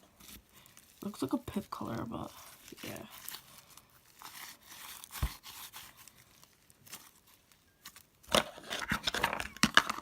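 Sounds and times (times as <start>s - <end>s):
slime crackling and tearing: 0.0s - 9.2s.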